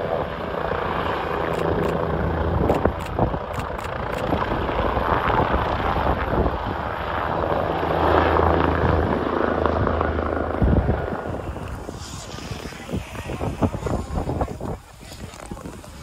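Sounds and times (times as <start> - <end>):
helicopter flying low overhead: 0.0 - 16.0.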